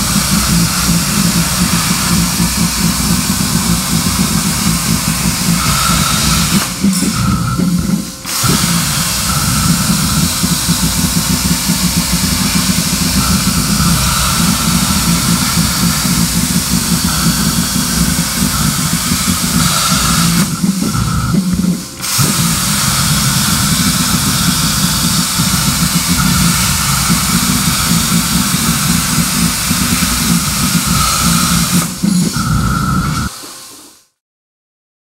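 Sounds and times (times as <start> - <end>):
low hum: 0.0 - 33.3
plasma cutter hissing: 0.0 - 34.0.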